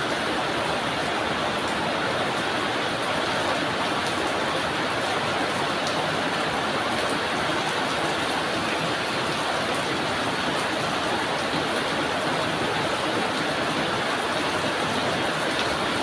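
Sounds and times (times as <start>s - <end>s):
drizzling rain: 0.0s - 16.0s.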